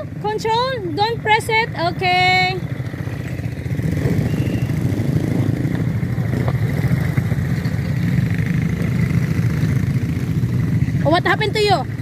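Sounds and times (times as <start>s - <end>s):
atv engine low rumble: 0.0s - 12.0s.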